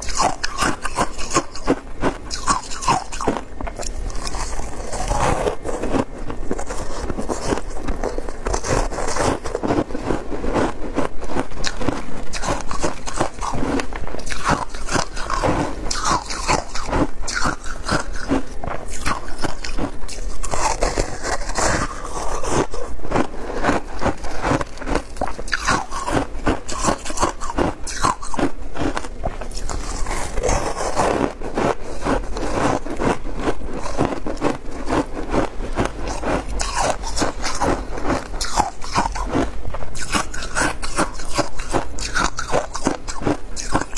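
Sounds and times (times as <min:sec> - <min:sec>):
crunching shaved ice: 0:00.0 - 0:43.9.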